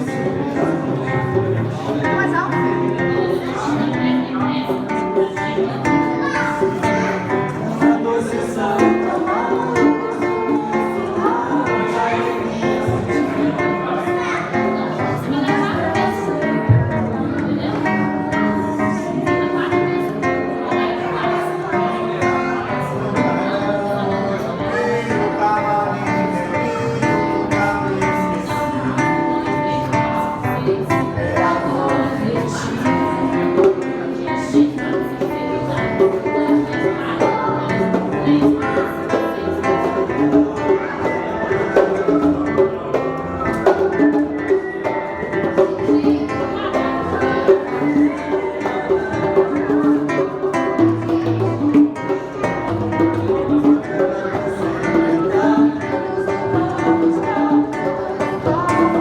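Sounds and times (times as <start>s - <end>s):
acoustic guitar playing: 0.0s - 59.0s
hand drums beating: 0.0s - 59.0s.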